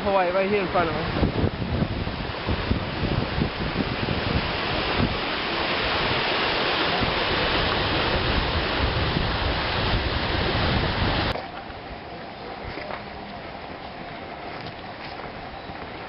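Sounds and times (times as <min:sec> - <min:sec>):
waterfall rushing: 0:00.0 - 0:16.0
wind buffeting the microphone: 0:00.0 - 0:16.0.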